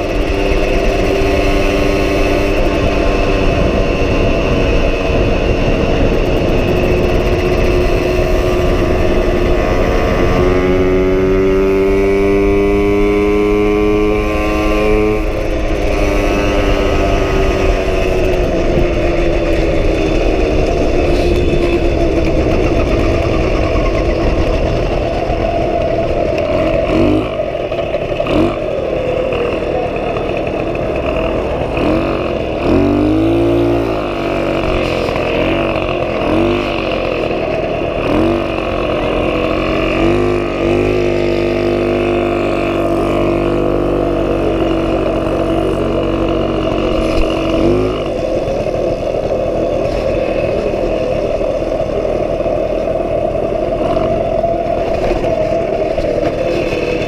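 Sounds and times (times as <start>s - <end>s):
moped two-stroke engine running: 0.0s - 57.0s.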